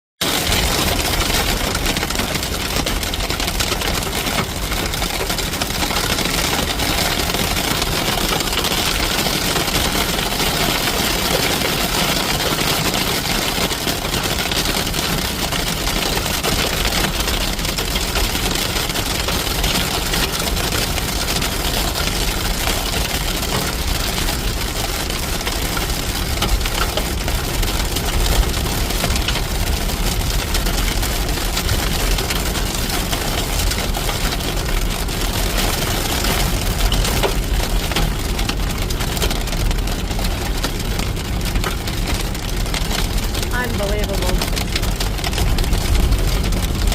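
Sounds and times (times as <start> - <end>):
hail hitting a truck: 0.2 - 46.9.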